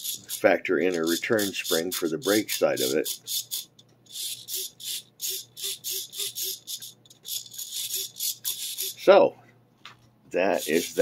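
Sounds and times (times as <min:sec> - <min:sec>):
metal linkage rubbing swishes: 0:00.0 - 0:09.1, 0:10.4 - 0:11.0
spring squeaks: 0:00.0 - 0:09.1.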